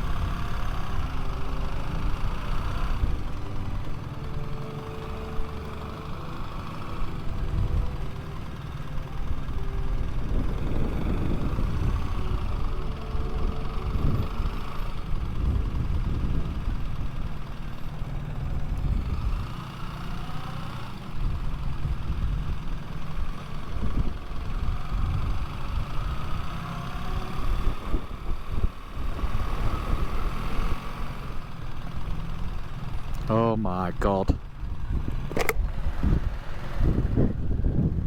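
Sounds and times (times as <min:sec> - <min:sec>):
motorcycle engine rumbling: 0:00.0 - 0:38.0.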